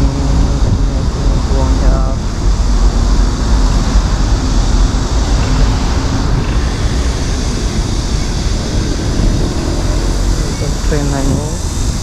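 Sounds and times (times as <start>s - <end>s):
train running: 0.0s - 12.0s.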